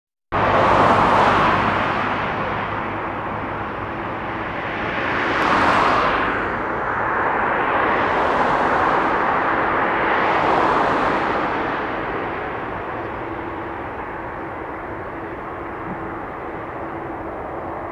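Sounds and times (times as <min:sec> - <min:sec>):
jet engines rushing: 0:00.4 - 0:17.9.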